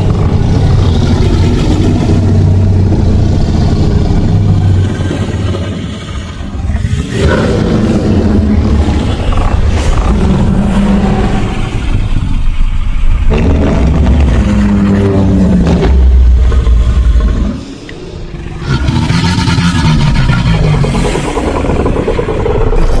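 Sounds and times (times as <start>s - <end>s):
heavy low rumble: 0.0s - 23.0s
monster growls and roars: 0.0s - 23.0s.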